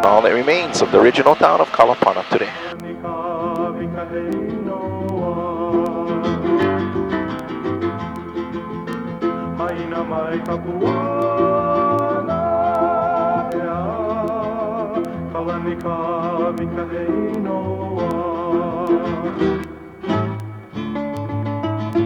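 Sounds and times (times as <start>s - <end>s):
plucked guitar and bass: 2.7s - 22.0s.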